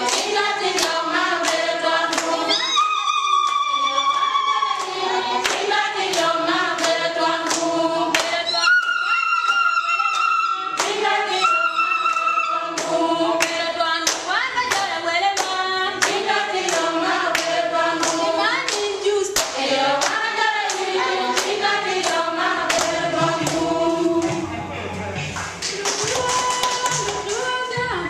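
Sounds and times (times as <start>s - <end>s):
hands clapping to a beat: 0.0s - 2.4s, 3.3s - 24.4s, 25.2s - 27.6s
women singing together: 0.0s - 24.6s, 25.7s - 28.0s.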